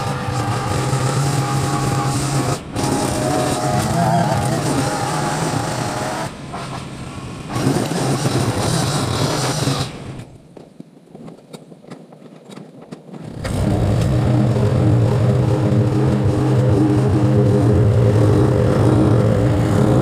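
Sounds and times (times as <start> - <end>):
small gasoline engine running: 0.0 - 6.5, 7.3 - 10.2, 13.4 - 20.0.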